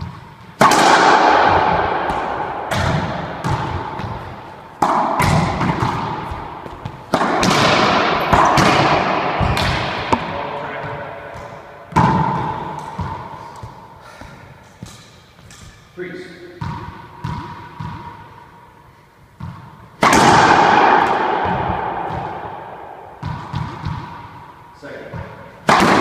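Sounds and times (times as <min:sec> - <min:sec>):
ball hitting racquet and walls: 0:00.0 - 0:26.0.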